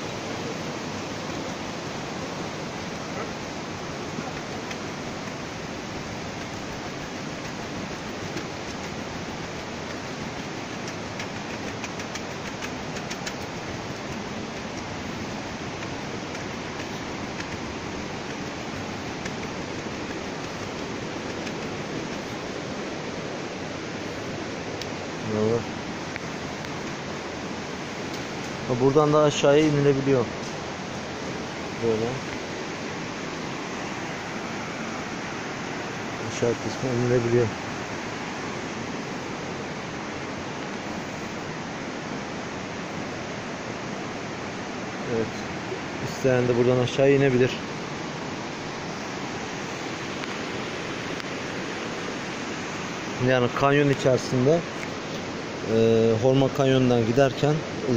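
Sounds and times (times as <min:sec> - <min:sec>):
mountain stream rushing over rocks: 0:00.0 - 0:57.9.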